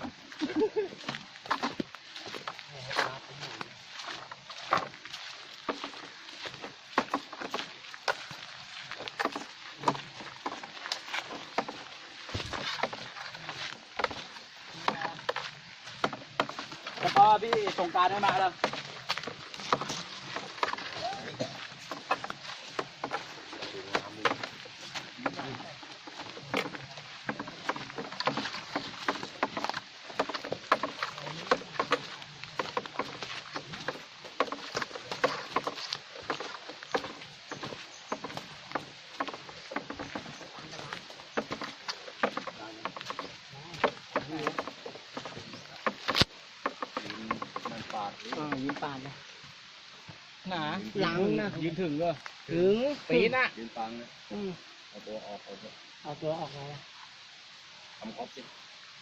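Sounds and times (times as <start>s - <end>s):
footsteps through dry forest litter: 0.0s - 54.9s.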